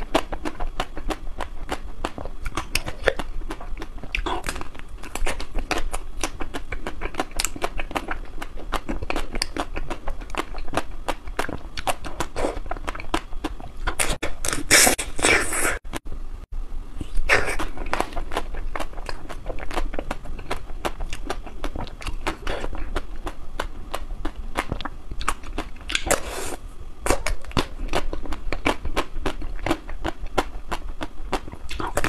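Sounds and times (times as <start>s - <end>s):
crunchy chewing: 0.0s - 15.8s, 17.0s - 32.0s.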